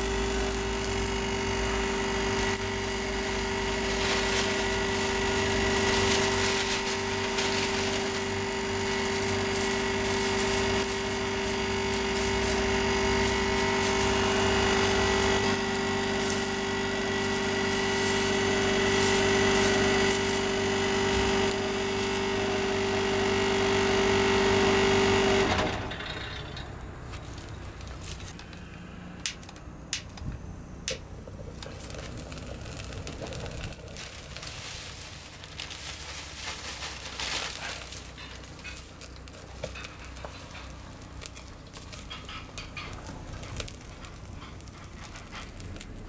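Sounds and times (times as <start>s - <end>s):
loud motor-like hum: 0.0s - 46.0s
straw fire crackling: 0.0s - 46.0s.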